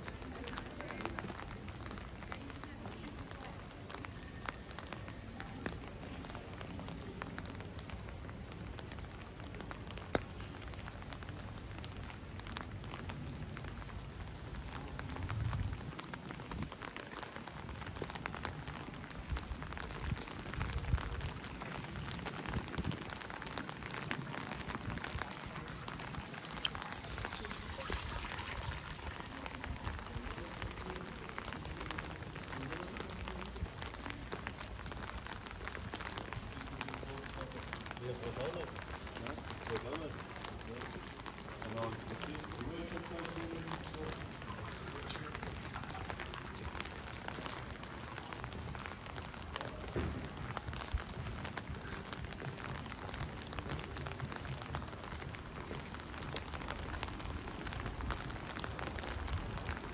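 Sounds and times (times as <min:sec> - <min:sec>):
heavy rain splashing: 0:00.0 - 0:59.9.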